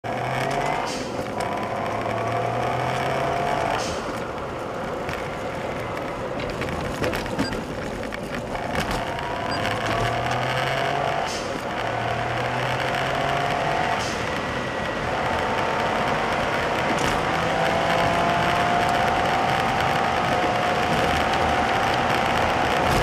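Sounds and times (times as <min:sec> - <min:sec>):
road noise: 0:00.0 - 0:23.0
turbo engine whine: 0:00.0 - 0:23.0.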